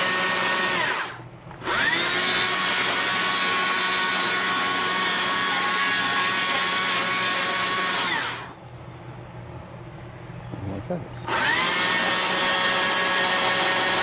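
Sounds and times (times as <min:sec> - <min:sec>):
power carving tool whining: 0:00.0 - 0:08.6, 0:11.3 - 0:14.0.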